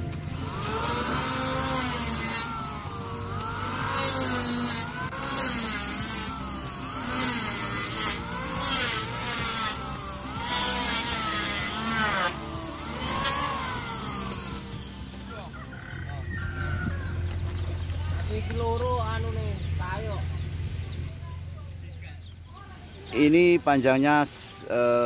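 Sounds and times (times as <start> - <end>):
steady low hum: 0.0 - 23.1
small engine revving: 0.0 - 23.3.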